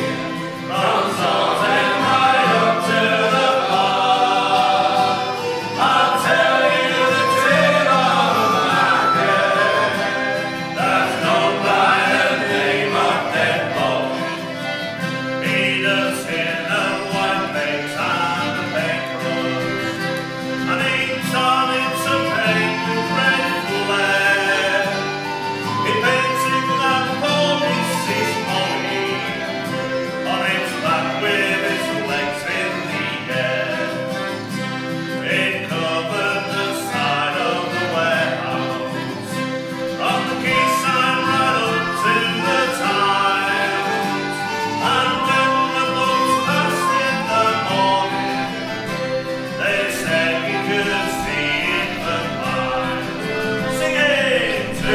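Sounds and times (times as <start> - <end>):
group singing a sea shanty: 0.0 - 54.9
instrumental accompaniment: 0.0 - 54.9.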